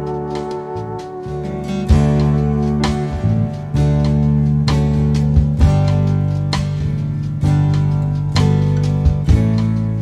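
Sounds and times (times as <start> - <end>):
guitar strumming chords: 0.0 - 10.0.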